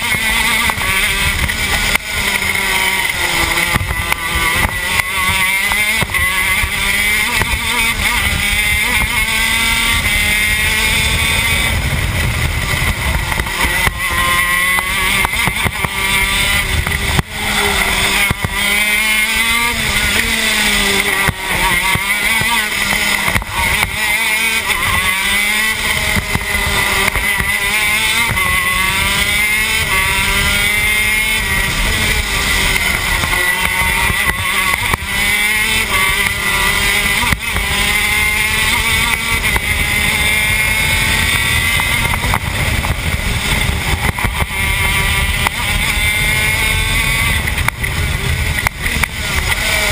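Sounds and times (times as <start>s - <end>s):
kart engine revving: 0.0s - 49.9s.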